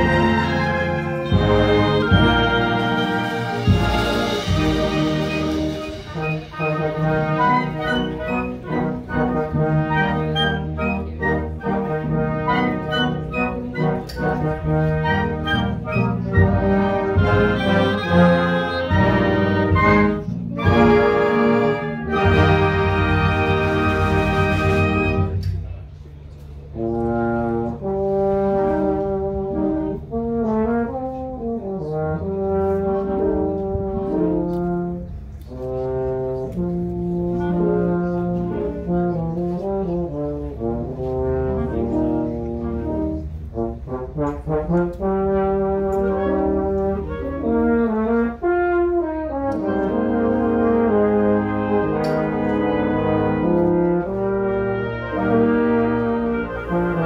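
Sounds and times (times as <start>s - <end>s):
concert band playing: 0.0s - 25.7s, 32.0s - 57.0s
tuba bass line: 0.0s - 26.0s, 26.6s - 57.0s.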